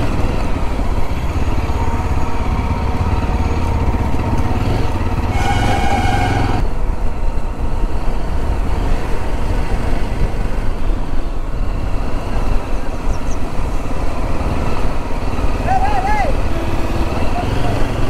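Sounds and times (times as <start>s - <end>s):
motorcycle engine and road rumble: 0.0s - 18.0s.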